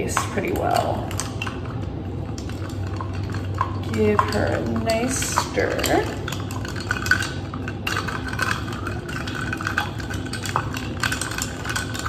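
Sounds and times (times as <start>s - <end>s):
straw and ice clinking glass: 0.0s - 12.0s.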